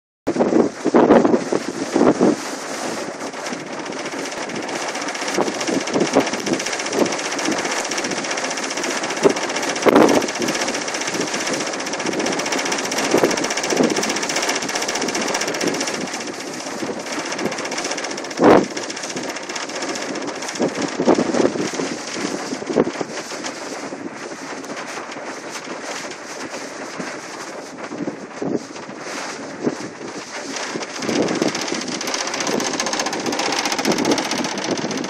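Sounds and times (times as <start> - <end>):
wind buffeting microphone: 0.3 - 35.0.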